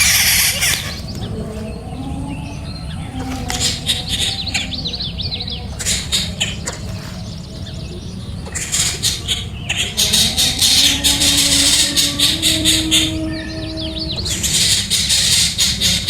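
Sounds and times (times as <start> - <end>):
nestling birds begging chirps: 0.0 - 16.0.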